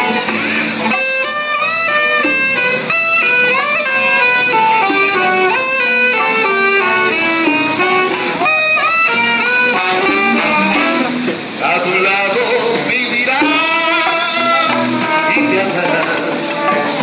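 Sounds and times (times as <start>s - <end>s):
acoustic guitar: 0.0s - 17.0s
bongos: 0.0s - 17.0s
electric bass: 0.0s - 17.0s
saxophone: 0.0s - 17.0s
trombone: 0.0s - 17.0s.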